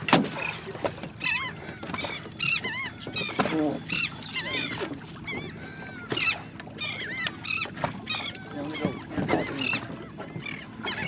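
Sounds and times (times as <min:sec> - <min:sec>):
seabirds squawking: 0:00.3 - 0:11.0.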